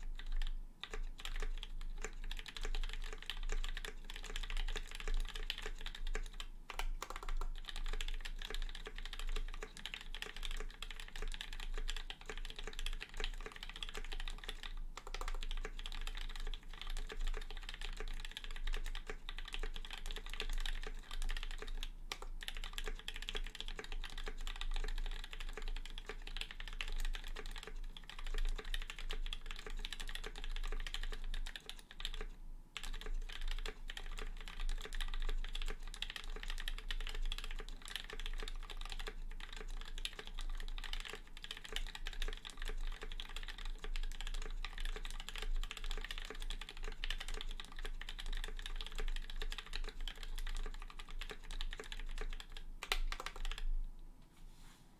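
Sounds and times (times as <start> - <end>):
mechanical keyboard typing: 0.0 - 53.7.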